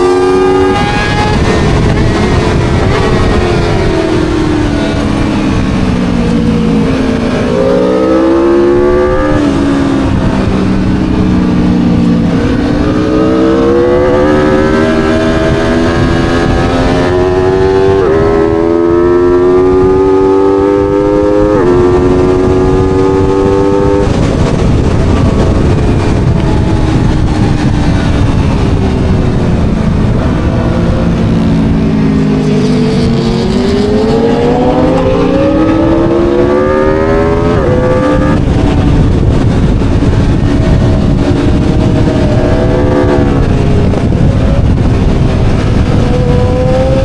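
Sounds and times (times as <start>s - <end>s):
motorcycle engine revving: 0.0s - 47.0s
wind noise: 0.0s - 47.0s.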